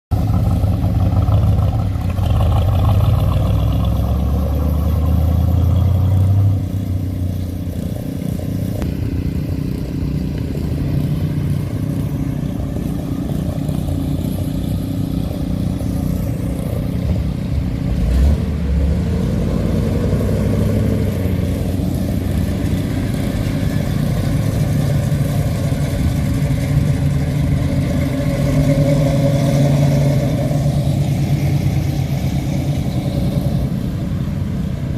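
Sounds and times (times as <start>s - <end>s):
car engines driving past: 0.1s - 34.9s.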